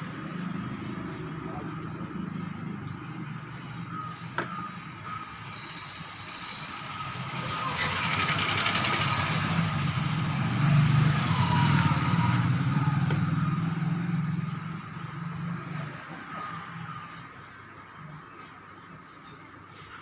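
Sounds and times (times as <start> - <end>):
vehicle engine rumble: 0.0 - 18.6.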